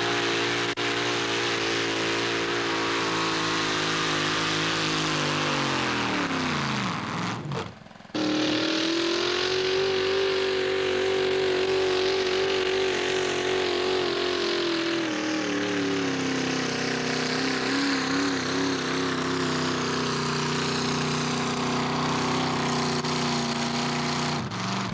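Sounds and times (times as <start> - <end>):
tractor engine at high revs: 0.0 - 24.9.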